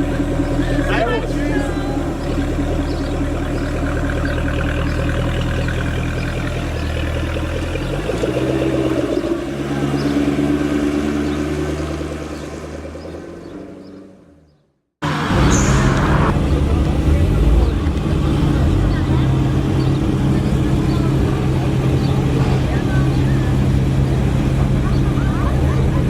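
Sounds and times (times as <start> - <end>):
car engine running at low revs: 0.0 - 26.0.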